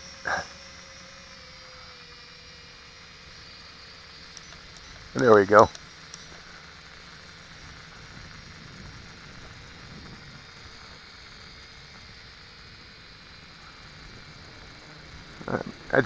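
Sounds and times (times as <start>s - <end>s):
background hiss: 0.0s - 16.0s
quadcopter propellers humming: 0.0s - 16.0s.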